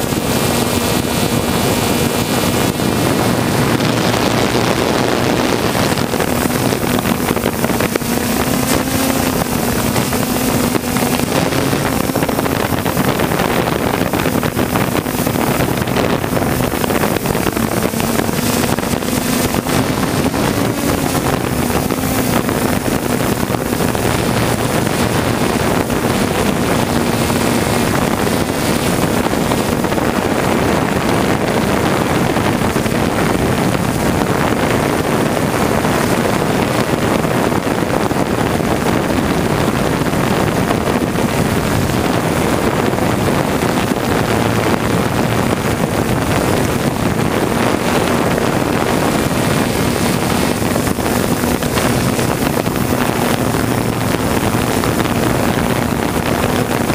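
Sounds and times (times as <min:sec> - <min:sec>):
drone motors and propellers: 0:00.0 - 0:56.9
wind noise on microphone: 0:00.0 - 0:56.9.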